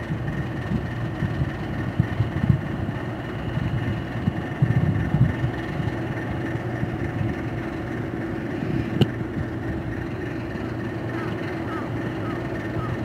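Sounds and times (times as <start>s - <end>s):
boat diesel engine running: 0.0s - 13.0s.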